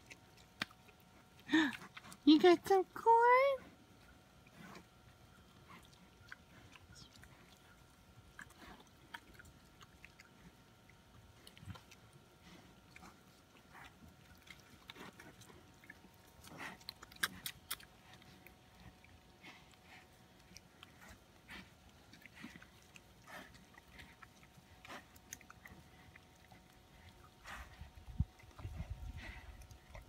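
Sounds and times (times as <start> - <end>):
pigs chewing and crunching: 0.0 - 30.0.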